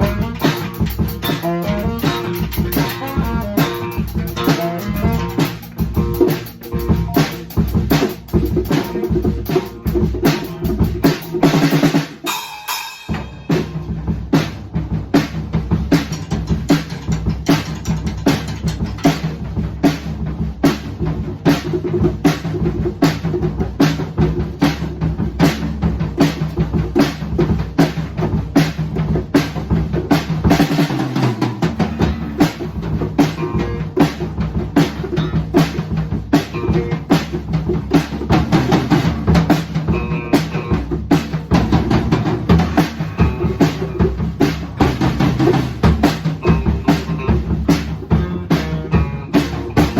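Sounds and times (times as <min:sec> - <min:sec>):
drum kit beat: 0:00.0 - 0:49.9
live band playing instrumental: 0:00.0 - 0:49.9.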